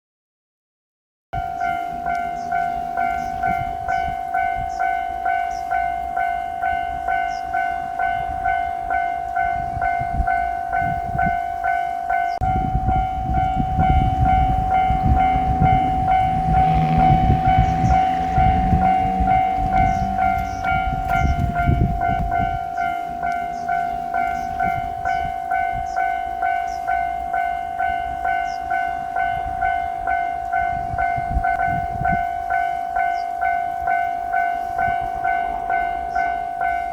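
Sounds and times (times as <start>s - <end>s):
level crossing bell ringing: 1.4s - 36.9s
train rumble: 1.4s - 36.9s.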